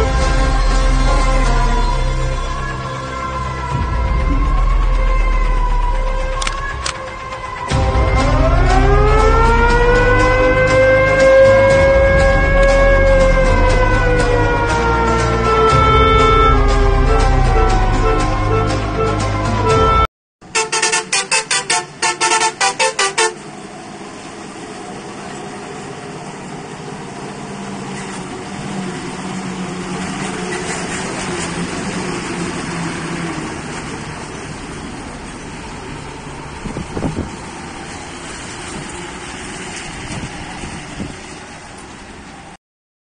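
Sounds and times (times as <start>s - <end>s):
truck engine under load: 0.0s - 19.8s, 20.4s - 42.6s.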